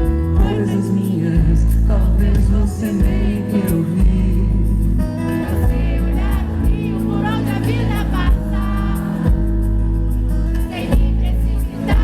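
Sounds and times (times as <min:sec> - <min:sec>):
live band music: 0:00.0 - 0:12.0
person singing: 0:00.0 - 0:12.0.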